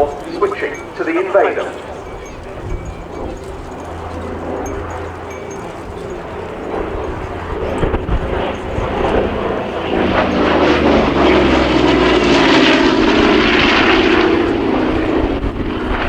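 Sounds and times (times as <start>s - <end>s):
propeller aircraft engines droning: 0.0s - 16.0s.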